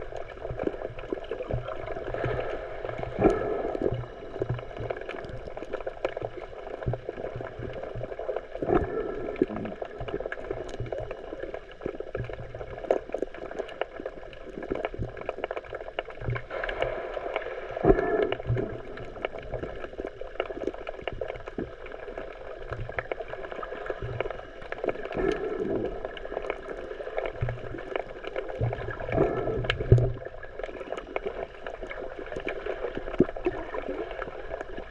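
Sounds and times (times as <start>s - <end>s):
muffled underwater water movement: 0.0s - 34.9s.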